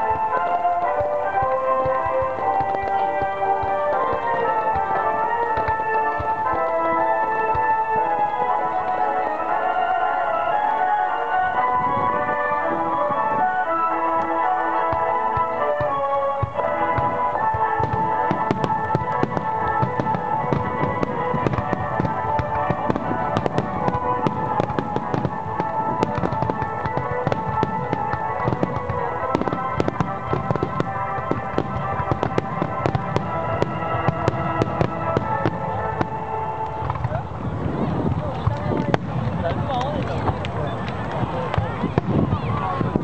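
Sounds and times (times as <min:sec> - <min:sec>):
music playing: 0:00.0 - 0:38.4
fireworks bursting and crackling: 0:00.0 - 0:43.0.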